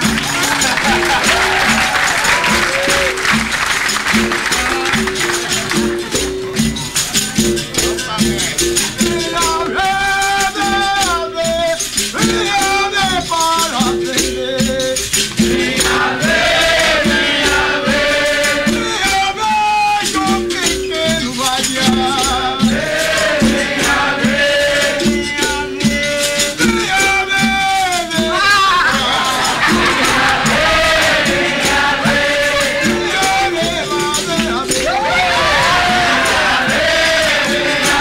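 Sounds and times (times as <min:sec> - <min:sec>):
hand drums steady rhythm: 0:00.0 - 0:38.0
voices singing: 0:00.0 - 0:38.0.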